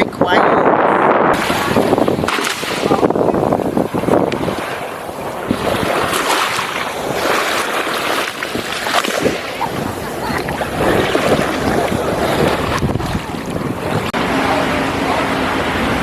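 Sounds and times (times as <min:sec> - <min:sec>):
waves washing on shore: 0:00.0 - 0:16.0
wind buffeting microphone: 0:00.0 - 0:16.0.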